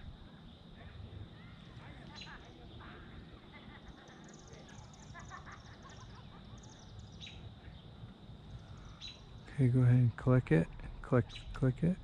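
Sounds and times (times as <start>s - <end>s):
faint birdsong trills: 0.0s - 12.0s.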